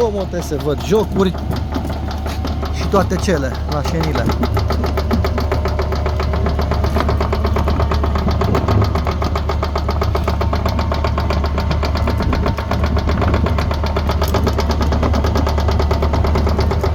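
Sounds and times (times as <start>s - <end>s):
crawler track clattering: 0.0s - 16.9s
diesel engine running: 0.0s - 16.9s.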